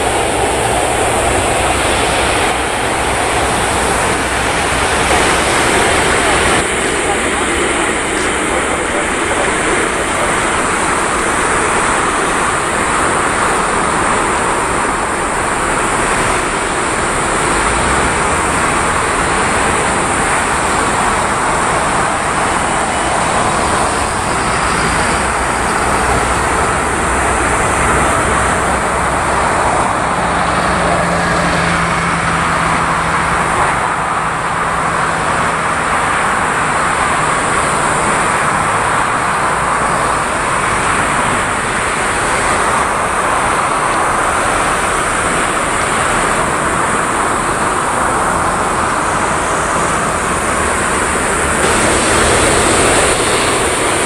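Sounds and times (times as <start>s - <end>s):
high engine whine: 0.0s - 54.0s
jet engines rushing: 0.0s - 54.0s.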